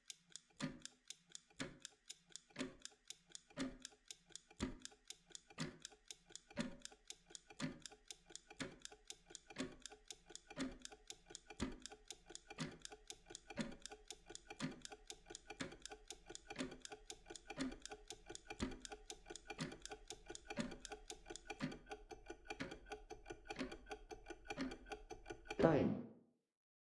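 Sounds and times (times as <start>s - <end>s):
kitchen timer ticking: 0.0s - 25.6s
heavier timer tick: 0.0s - 25.7s.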